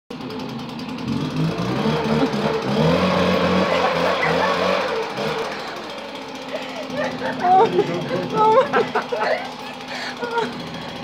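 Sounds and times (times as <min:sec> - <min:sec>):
leaf blower engine running: 0:00.1 - 0:11.0.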